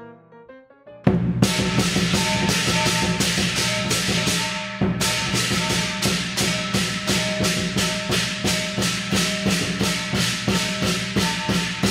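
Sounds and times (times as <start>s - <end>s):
fast percussion beat: 1.1s - 11.9s.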